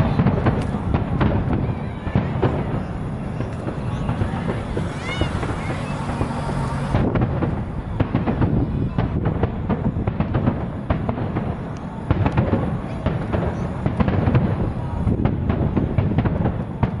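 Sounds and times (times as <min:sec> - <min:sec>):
continuous rumble: 0:00.0 - 0:17.0
fireworks booms and cracks: 0:00.0 - 0:17.0.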